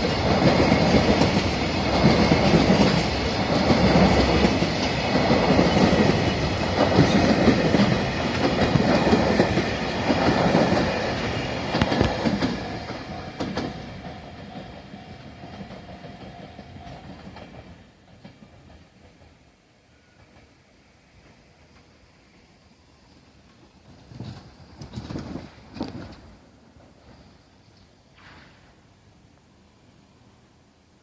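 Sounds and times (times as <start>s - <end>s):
train wheels clacking on rails: 0.0s - 22.1s, 23.9s - 27.3s.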